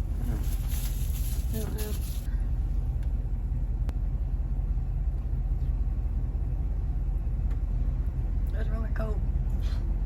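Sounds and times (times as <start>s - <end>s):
car interior rumble: 0.0s - 10.0s.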